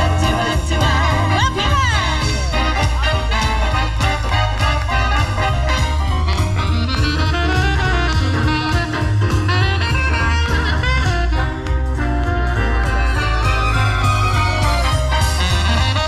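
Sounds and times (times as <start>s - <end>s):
swing music over loudspeakers: 0.0s - 16.0s.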